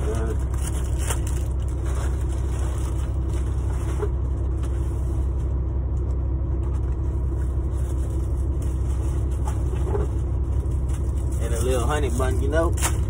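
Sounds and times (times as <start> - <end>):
truck diesel engine idling: 0.0 - 13.0.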